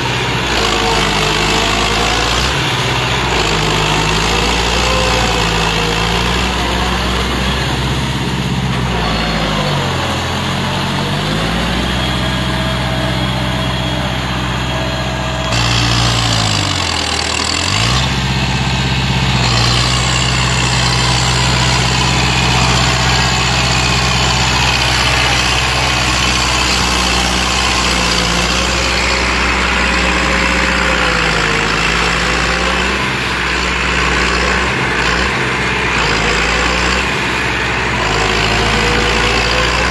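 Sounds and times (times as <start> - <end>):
diesel tractor engine labouring: 0.0 - 39.9.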